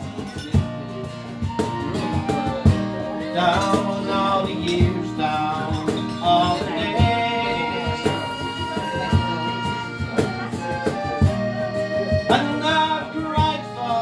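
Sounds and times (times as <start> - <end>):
accordion playing slow melody: 0.0 - 14.0
cajon drum beats: 0.0 - 14.0
strummed acoustic guitar: 0.0 - 14.0.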